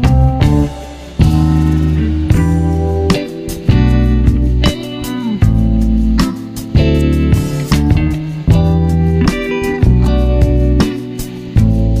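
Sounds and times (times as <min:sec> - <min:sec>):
sharp drum hits: 0:00.0 - 0:11.7
music with strong bass: 0:00.0 - 0:12.0.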